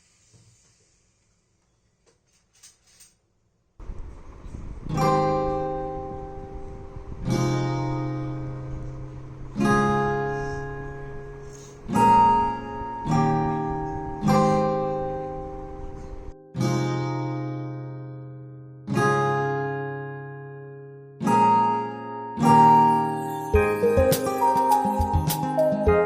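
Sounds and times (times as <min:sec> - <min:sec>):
acoustic guitar chords strummed: 0:04.8 - 0:26.0.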